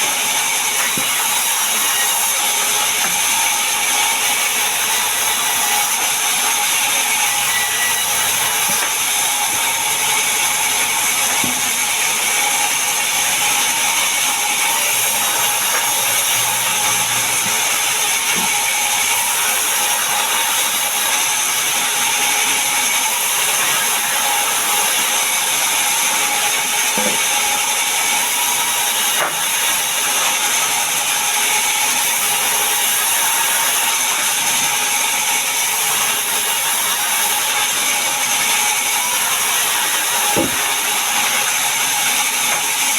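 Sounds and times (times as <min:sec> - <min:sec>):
power saw cutting wood: 0:00.0 - 0:42.9.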